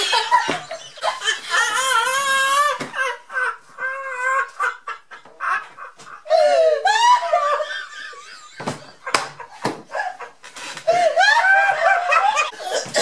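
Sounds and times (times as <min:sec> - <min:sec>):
people laughing hard: 0:00.0 - 0:13.0.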